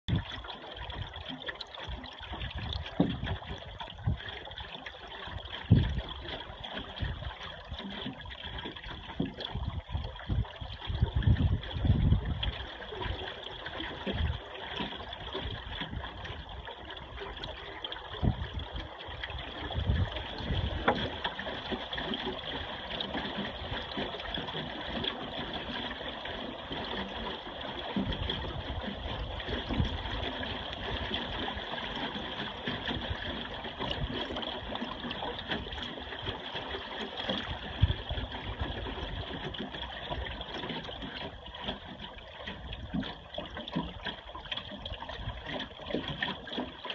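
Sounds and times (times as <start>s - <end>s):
wind rumble on microphone: 0.1s - 46.4s
water splashing against hull: 0.1s - 46.9s.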